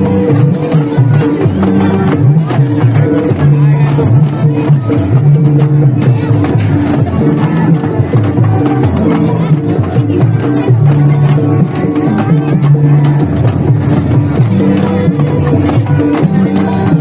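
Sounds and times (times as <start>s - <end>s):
light percussion: 0.0s - 17.0s.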